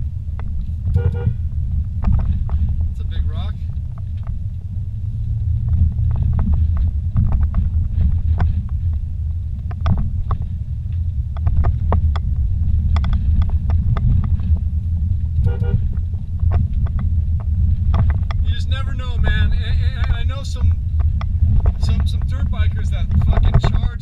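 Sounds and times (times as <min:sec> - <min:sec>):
knocks and rattles: 0:00.0 - 0:03.0, 0:05.5 - 0:24.0
vehicle engine and tyres rumbling: 0:00.0 - 0:24.0.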